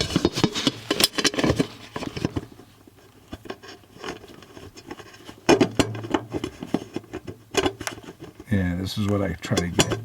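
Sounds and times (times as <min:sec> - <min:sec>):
metal cover clicks and scrapes: 0:00.0 - 0:02.6, 0:03.2 - 0:10.0
light taps and rubbing: 0:00.0 - 0:10.0.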